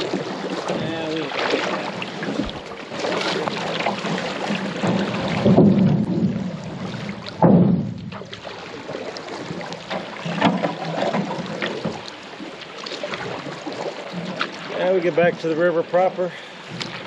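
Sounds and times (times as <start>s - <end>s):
moving water wash: 0.0s - 17.0s
paddle splashes: 0.0s - 17.0s.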